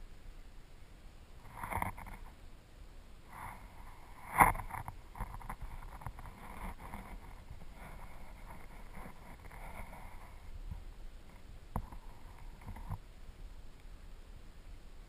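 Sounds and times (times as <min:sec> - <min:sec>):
muffled underwater river noise: 0:00.0 - 0:15.0.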